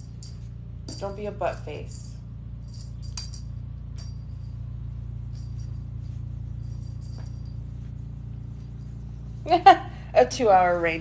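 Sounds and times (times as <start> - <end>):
small metal bell jingling: 0.0 - 9.1
steady low hum: 0.0 - 11.0.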